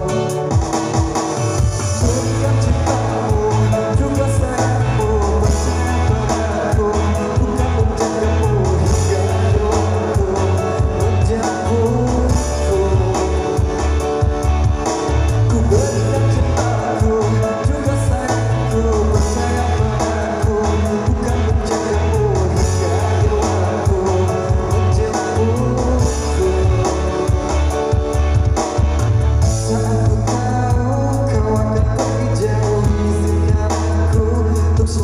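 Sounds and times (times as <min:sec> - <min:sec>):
band playing steady beat: 0:00.0 - 0:35.0
man singing: 0:00.0 - 0:35.0.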